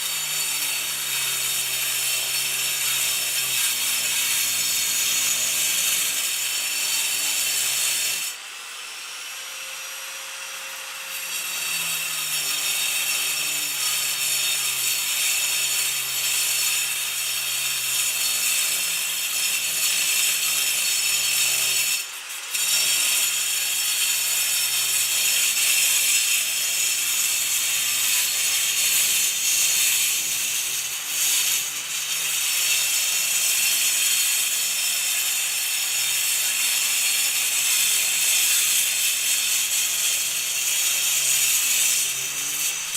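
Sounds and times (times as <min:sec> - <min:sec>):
angle grinder cutting concrete: 0:00.0 - 0:42.9.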